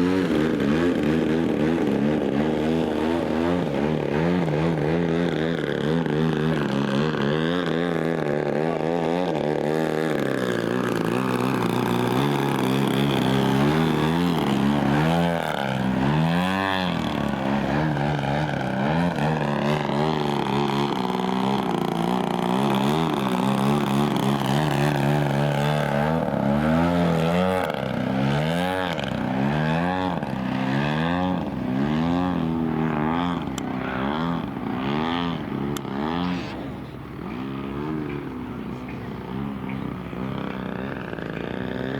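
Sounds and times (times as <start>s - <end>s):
model aircraft engine flying overhead: 0.0s - 41.9s.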